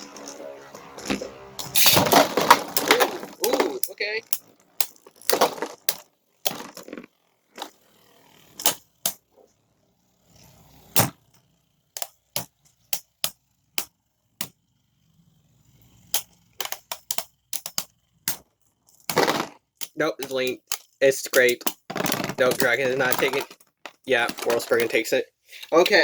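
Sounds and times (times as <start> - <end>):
spinning tops clacking: 0.0 - 9.3, 10.0 - 26.0
whir of spinning tops: 0.0 - 26.0.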